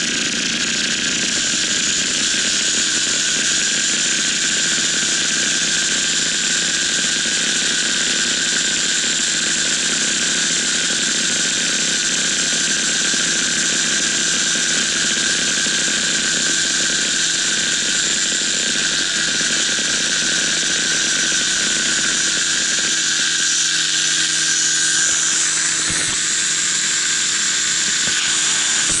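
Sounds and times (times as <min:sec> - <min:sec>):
paramotor engine drone: 0:00.0 - 0:29.0.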